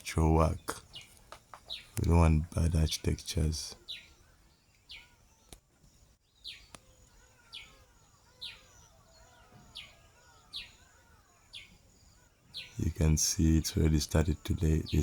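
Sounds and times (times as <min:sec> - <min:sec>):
faint bird twittering: 0:00.0 - 0:15.0.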